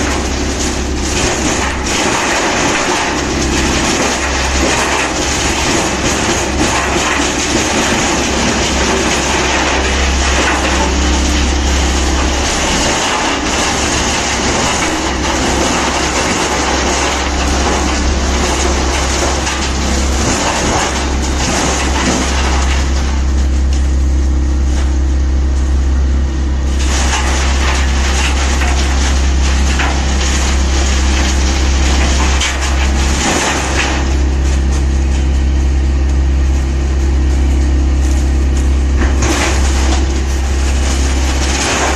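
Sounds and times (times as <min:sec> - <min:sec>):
low engine drone: 0:00.0 - 0:41.9
wood chipper grinding: 0:00.0 - 0:41.9.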